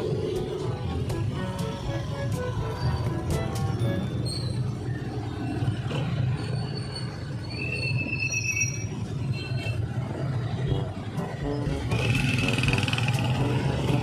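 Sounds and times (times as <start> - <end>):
motorcycle engine and road noise: 0.0 - 14.0.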